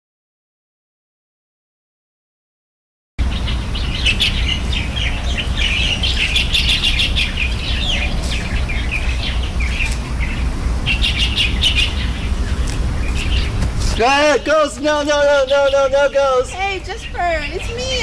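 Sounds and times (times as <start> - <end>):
small birds chirping: 3.2 - 18.0
steady low rumble: 3.2 - 18.0.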